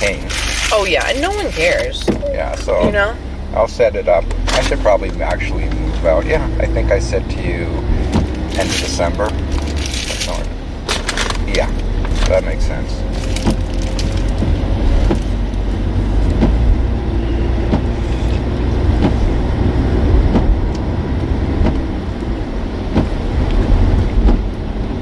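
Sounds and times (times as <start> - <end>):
car cabin road noise: 0.0 - 25.0.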